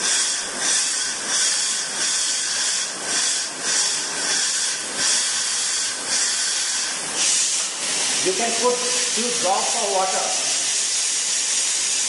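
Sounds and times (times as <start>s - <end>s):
gas hissing from a valve: 0.0s - 12.0s.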